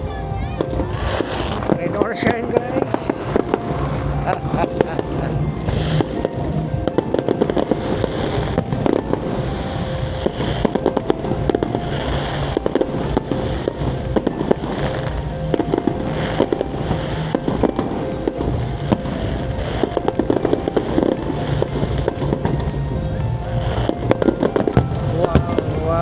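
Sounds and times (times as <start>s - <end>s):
background music: 0.0s - 26.0s
fireworks bangs and crackling: 0.0s - 26.0s.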